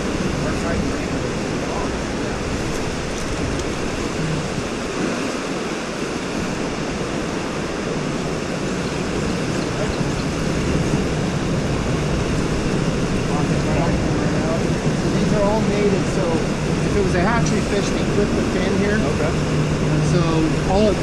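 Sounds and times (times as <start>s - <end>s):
river rapids rushing: 0.0s - 21.0s.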